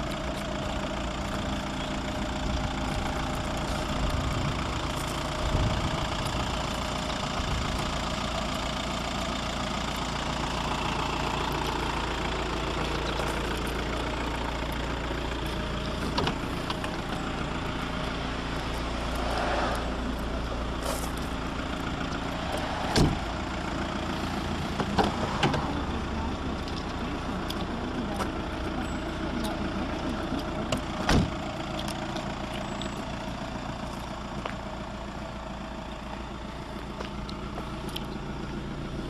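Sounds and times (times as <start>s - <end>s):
diesel car engine idling: 0.0s - 39.0s.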